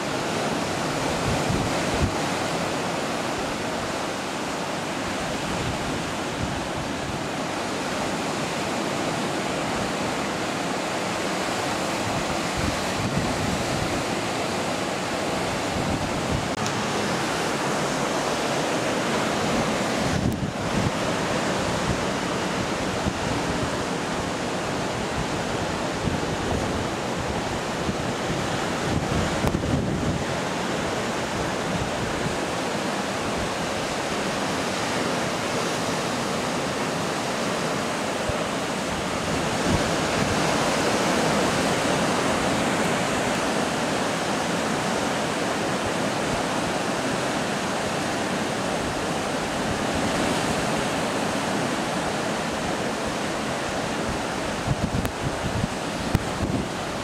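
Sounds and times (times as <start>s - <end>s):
surf breaking on rocky shore: 0.0s - 57.0s
wind on microphone: 0.0s - 57.0s.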